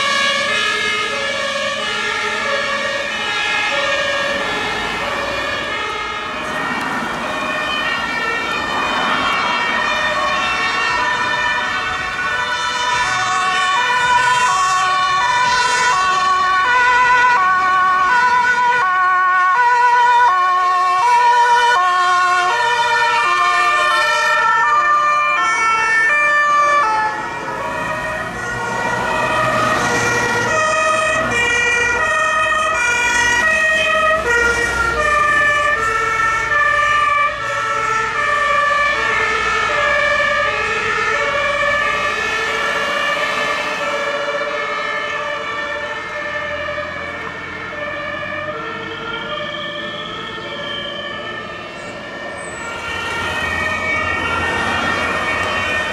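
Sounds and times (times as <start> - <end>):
two-tone emergency sirens: 0.0 - 55.9
vehicles driving by: 0.0 - 55.9.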